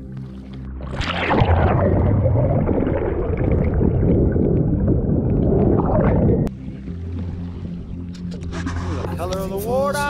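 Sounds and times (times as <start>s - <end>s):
muffled underwater rushing and gurgling: 0.7s - 9.2s.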